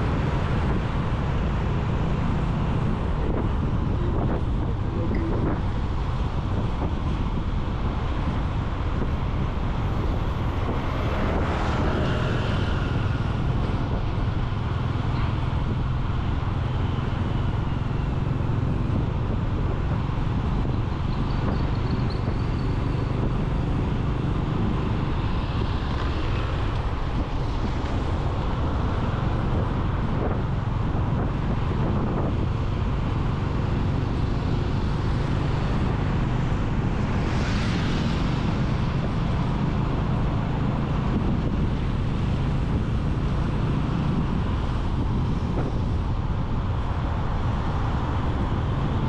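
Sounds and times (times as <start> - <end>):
motorcycle engine rumble: 0.0 - 49.0
passing vehicle: 0.0 - 49.0
road traffic: 0.0 - 49.0
wind rushing over microphone: 0.0 - 49.0.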